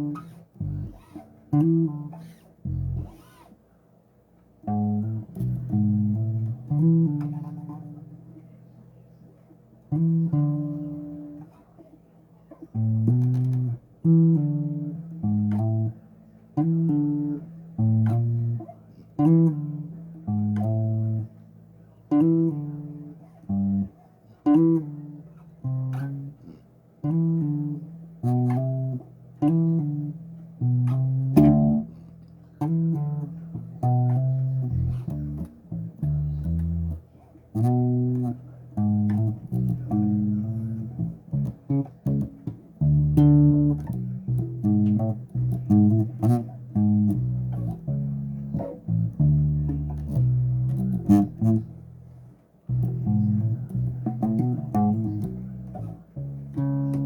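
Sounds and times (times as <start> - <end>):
bass guitar plucked notes: 0.0 - 3.2, 4.6 - 8.8, 9.8 - 11.6, 12.5 - 57.0.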